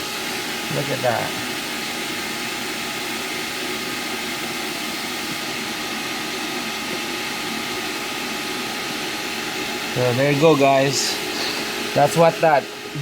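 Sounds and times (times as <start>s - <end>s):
shop vacuum blowing air: 0.0s - 13.0s.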